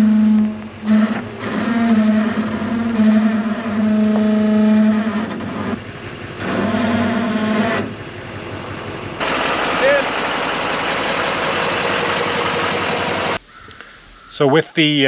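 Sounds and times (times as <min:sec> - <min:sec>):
truck engine running: 0:00.0 - 0:13.4.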